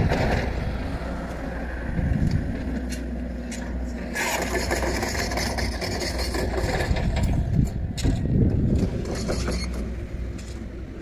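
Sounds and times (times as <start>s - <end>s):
excavator diesel engine running: 0.0s - 11.0s
gravel crunching and scraping: 0.0s - 11.0s.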